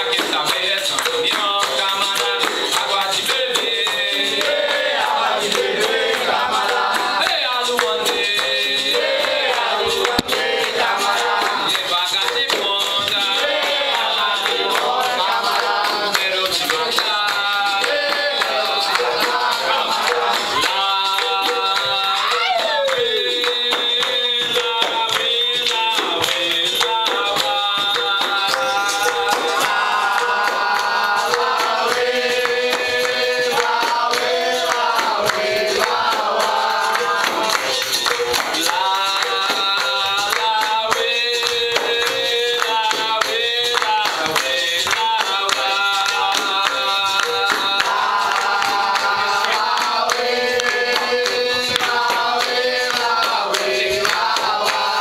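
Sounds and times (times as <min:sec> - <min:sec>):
group singing together: 0:00.0 - 0:55.0
hand-clapping: 0:00.0 - 0:55.0
pandeiros: 0:00.0 - 0:55.0.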